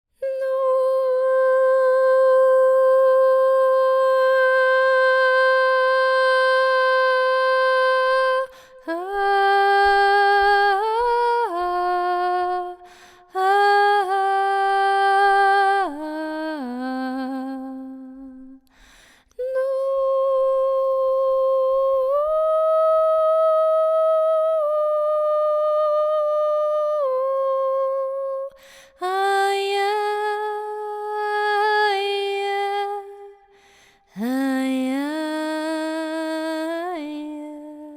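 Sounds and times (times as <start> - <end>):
woman singing long held notes: 0.2 - 18.8, 19.4 - 37.9.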